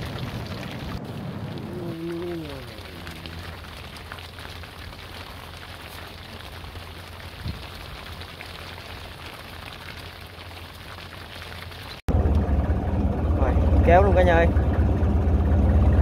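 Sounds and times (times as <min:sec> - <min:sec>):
rain falling on boat: 0:00.0 - 0:14.8.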